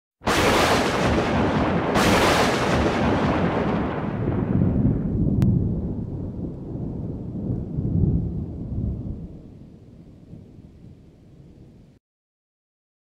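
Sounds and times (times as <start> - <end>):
deep rolling thunder: 0.2 - 12.0.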